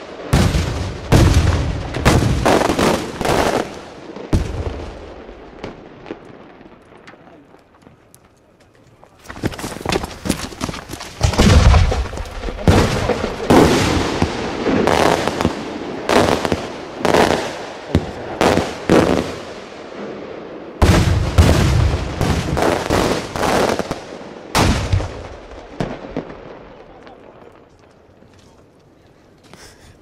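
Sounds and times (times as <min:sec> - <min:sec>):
fireworks sharp bangs: 0:00.0 - 0:08.1, 0:09.3 - 0:27.8
fireworks booming: 0:00.0 - 0:08.4, 0:09.2 - 0:28.0.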